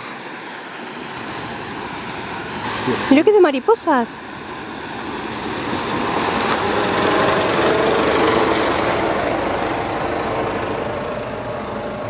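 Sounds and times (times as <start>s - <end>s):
tyres splashing through water: 0.0s - 12.0s
truck engine running: 0.9s - 12.0s.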